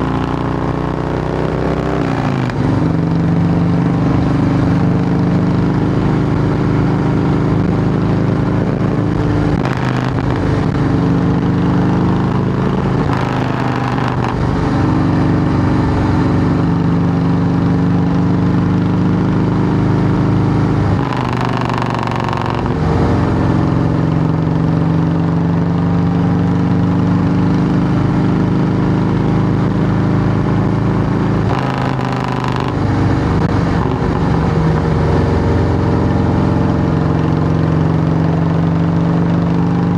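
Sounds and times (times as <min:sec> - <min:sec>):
loud motorcycle engine running: 0:00.0 - 0:39.9.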